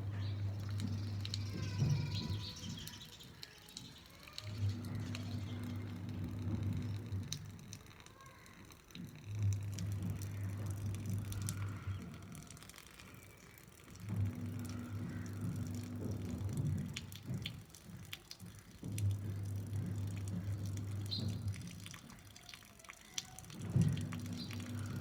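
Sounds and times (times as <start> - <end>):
water dripping and splashing: 0.0 - 25.0.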